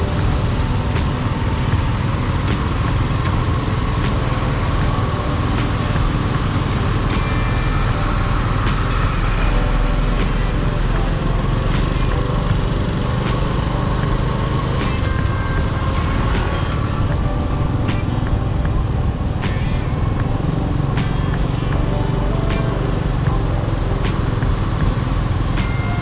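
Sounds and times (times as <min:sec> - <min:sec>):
low traffic rumble: 0:00.0 - 0:26.0
motorbikes: 0:00.0 - 0:26.0
vehicle engines running: 0:00.0 - 0:26.0.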